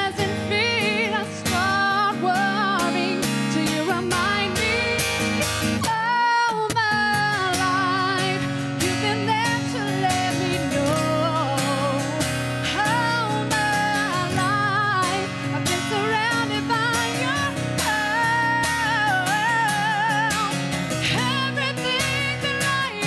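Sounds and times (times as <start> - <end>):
guitar accompaniment: 0.0 - 23.0
woman singing: 0.0 - 23.0.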